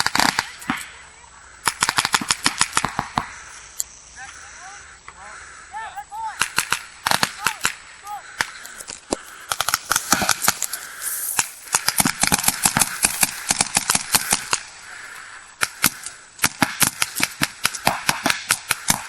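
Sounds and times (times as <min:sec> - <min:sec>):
paintball markers firing: 0:00.0 - 0:00.9, 0:01.6 - 0:03.9, 0:06.4 - 0:19.0.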